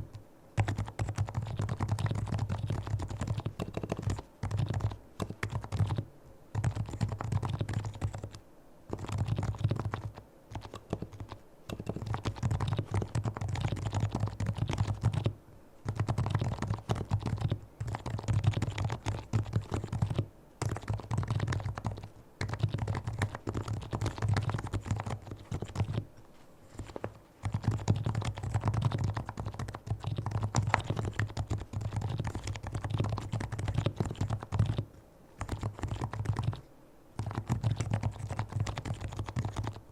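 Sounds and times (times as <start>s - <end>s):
keyboard typing: 0.0s - 26.1s, 26.7s - 36.6s, 37.2s - 39.9s.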